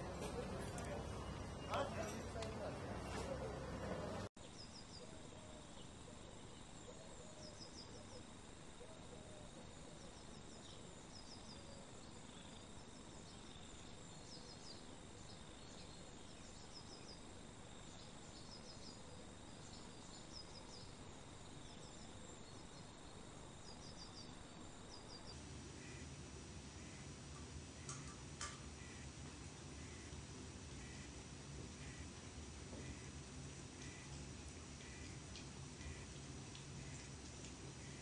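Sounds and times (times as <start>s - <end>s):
low hiss: 0.0s - 38.0s.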